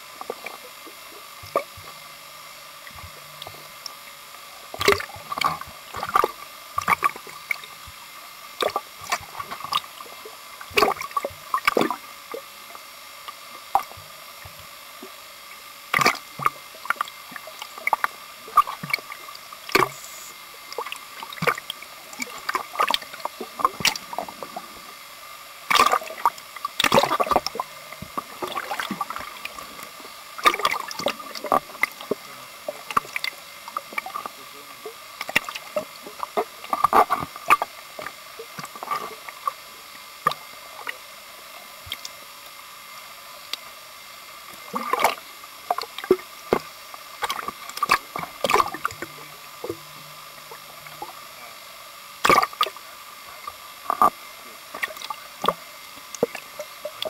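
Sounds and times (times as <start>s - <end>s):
faint steady tone: 0.0s - 57.0s
water splashing and gurgling: 0.0s - 57.0s.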